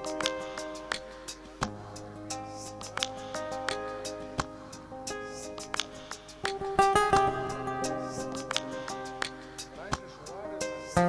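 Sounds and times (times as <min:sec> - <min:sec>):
guitar music plucked and strummed: 0:00.0 - 0:11.0.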